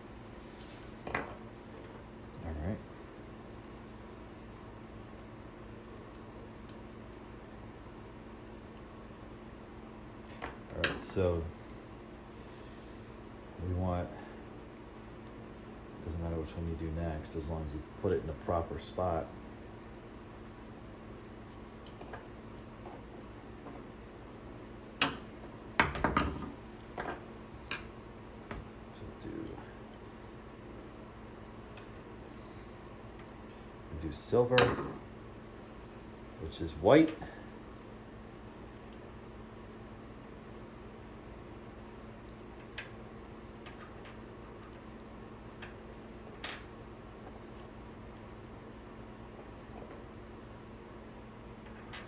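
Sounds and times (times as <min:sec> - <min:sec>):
low room tone hum: 0:00.0 - 0:52.0.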